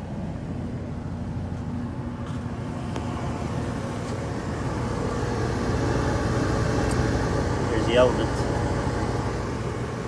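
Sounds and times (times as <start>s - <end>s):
clothes dryer humming: 0.0s - 10.0s.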